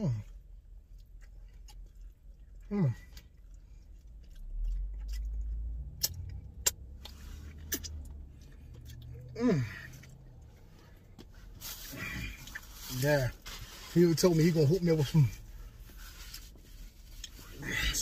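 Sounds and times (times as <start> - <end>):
low rumble and hum: 0.0 - 18.0.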